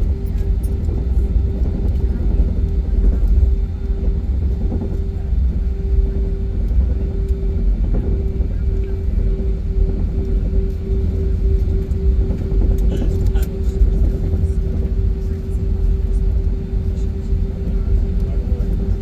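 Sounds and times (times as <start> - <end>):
airliner engine rumble: 0.0 - 19.0
pulsing droning hum: 0.0 - 19.0.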